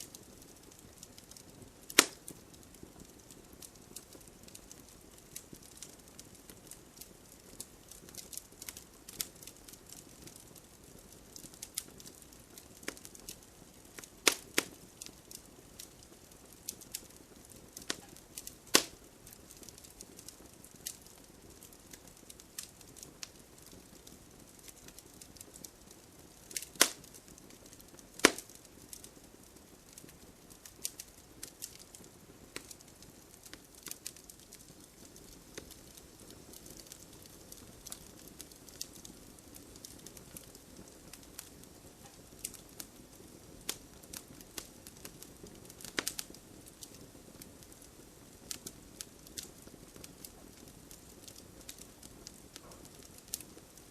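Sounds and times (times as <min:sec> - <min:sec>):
campfire crackling and popping: 0:00.0 - 0:53.9
soft hiss of flame: 0:00.0 - 0:53.9.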